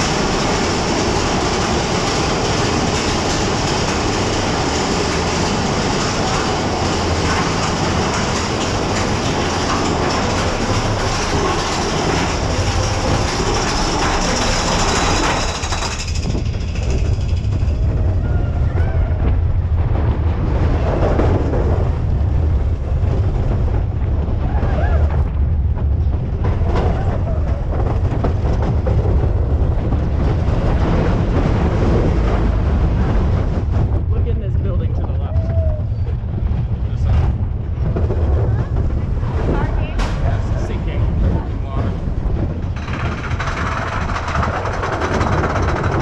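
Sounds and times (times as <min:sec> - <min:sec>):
roller coaster rumbling on track: 0:00.0 - 0:46.0.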